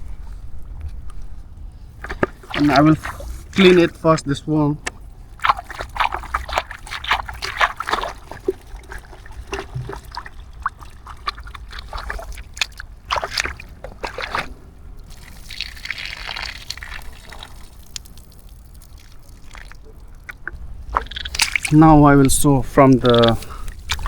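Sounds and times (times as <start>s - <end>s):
water sloshing and splashing: 0.0s - 24.0s
rush of water: 2.0s - 24.0s.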